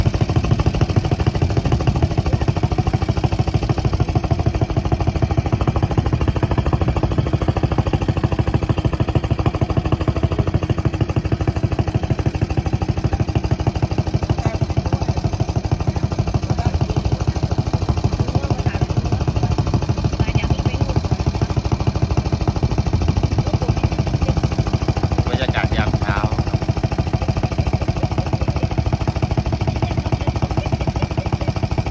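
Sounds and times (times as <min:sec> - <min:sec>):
small engine running: 0:00.0 - 0:31.9.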